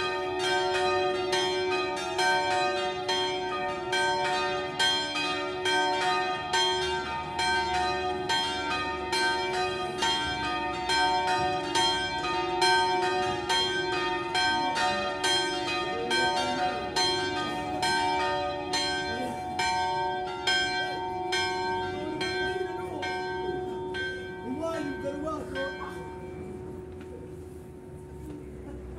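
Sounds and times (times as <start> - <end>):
church bells ringing: 0.0 - 28.1.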